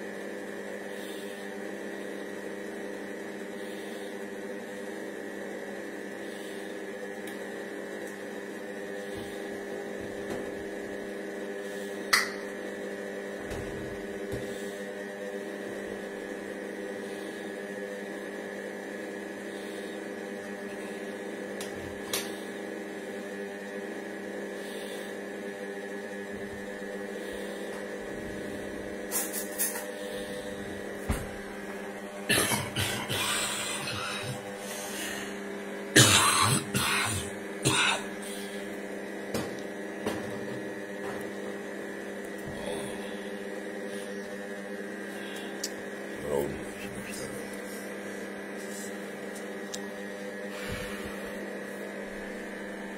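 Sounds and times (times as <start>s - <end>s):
kitchen robot motor and fan hum: 0.0s - 52.9s.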